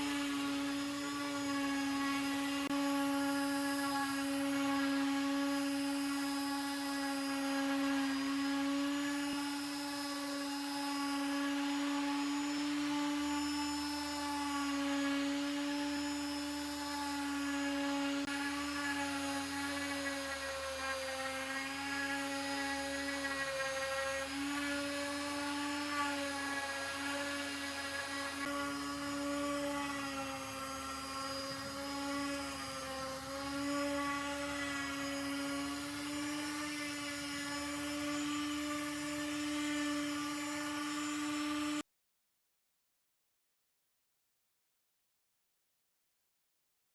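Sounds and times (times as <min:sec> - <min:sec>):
power tool motor whining: 0:00.0 - 0:41.8.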